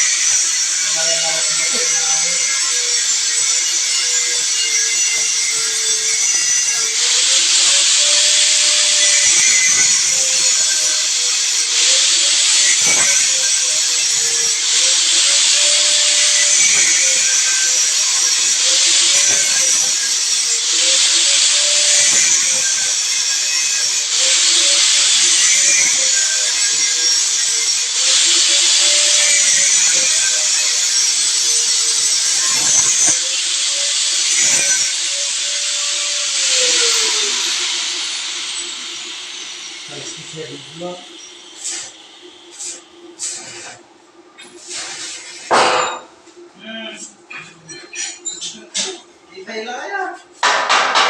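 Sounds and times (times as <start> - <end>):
power tool grinding: 0.0 - 43.7
sprayer motor tone: 0.0 - 43.7
loud hiss of spray: 0.0 - 43.8, 44.6 - 46.0.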